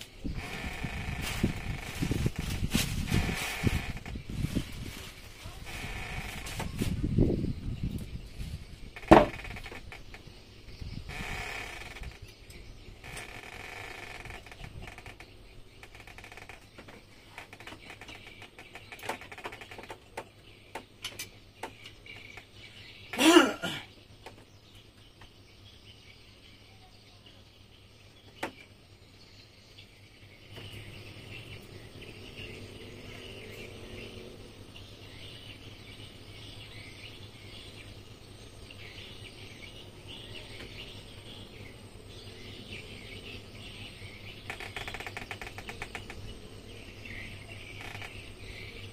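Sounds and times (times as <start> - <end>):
bird and insect chirping: 0.0 - 48.9.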